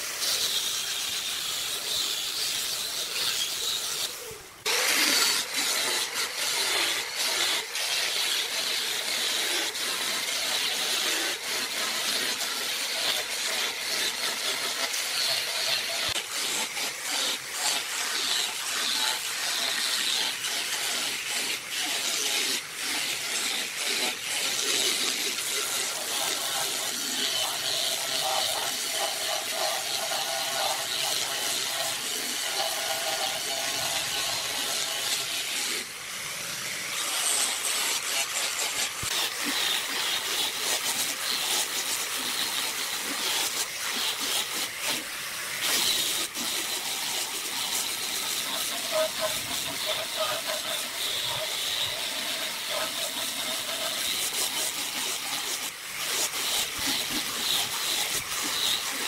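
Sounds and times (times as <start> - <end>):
grinder sanding wood: 0.0 - 59.0.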